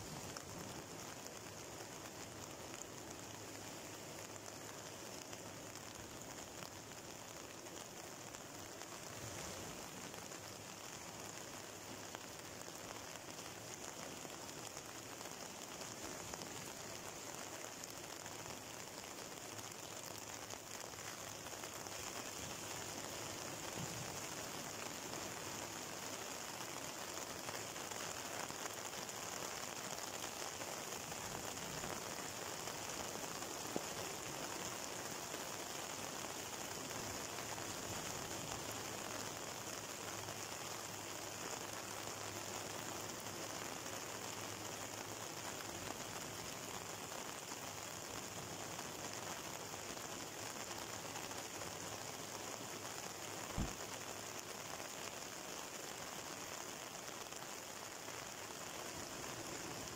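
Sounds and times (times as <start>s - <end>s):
rain: 0.0s - 59.9s.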